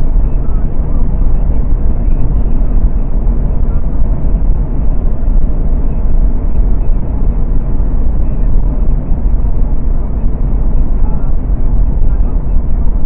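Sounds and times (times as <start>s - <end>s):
car interior road noise: 0.0s - 13.0s.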